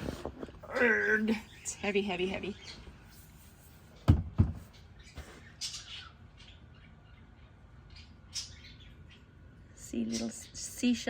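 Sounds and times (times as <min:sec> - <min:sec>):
bird chirping: 0:00.8 - 0:11.0.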